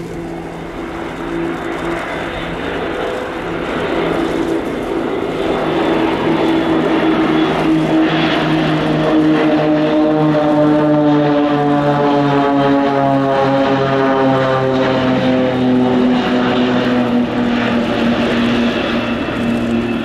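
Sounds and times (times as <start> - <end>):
propeller aircraft droning: 0.0 - 20.0.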